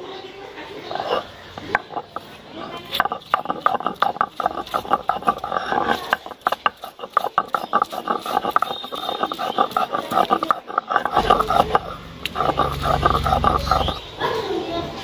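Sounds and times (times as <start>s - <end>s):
stone grinding on stone: 0.7s - 14.1s.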